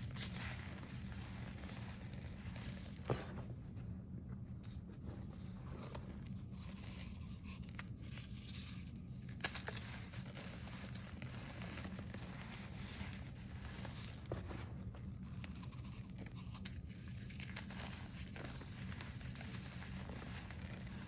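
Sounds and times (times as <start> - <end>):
chalk crumbling and crunching: 0.0 - 21.0
low steady hum: 0.0 - 21.0.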